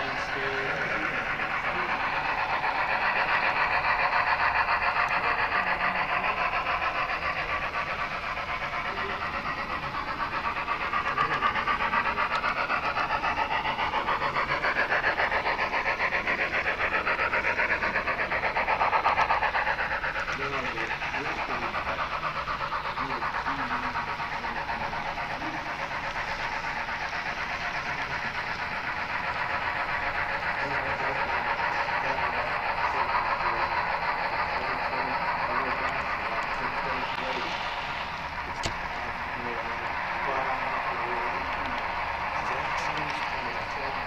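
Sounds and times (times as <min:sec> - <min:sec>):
model train whirring and rattling: 0:00.0 - 0:44.0.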